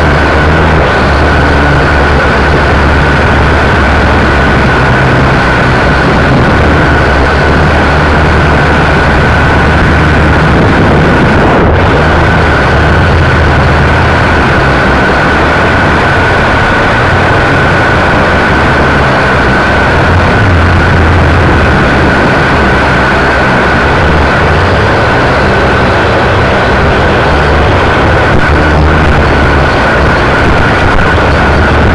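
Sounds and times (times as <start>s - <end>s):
drone motors buzzing: 0.0s - 31.9s
rushing air rumble: 0.0s - 31.9s.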